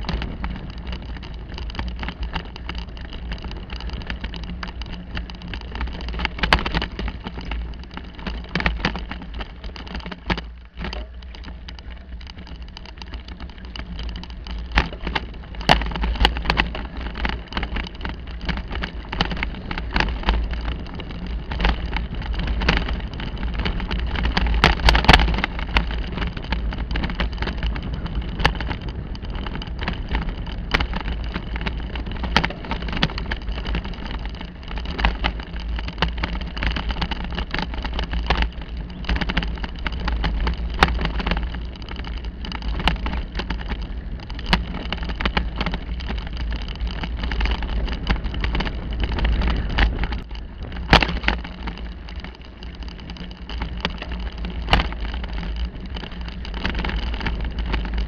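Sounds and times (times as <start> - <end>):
bicycle rattling over bumps: 0.0 - 58.0
bicycle tyres rumbling on dirt: 0.0 - 58.0.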